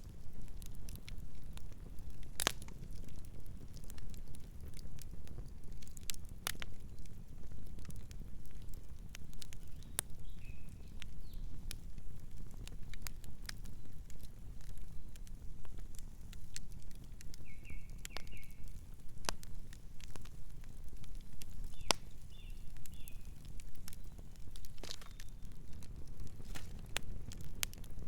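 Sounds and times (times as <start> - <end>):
campfire crackling and popping: 0.0 - 28.0
birds chirping softly: 4.9 - 27.8.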